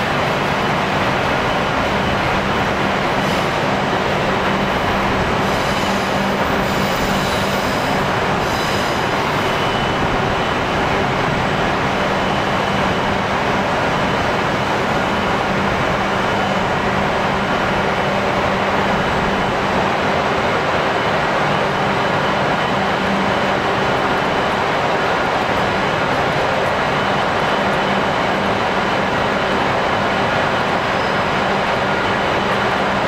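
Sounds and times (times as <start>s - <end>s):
train rumble and hiss: 0.0s - 33.0s.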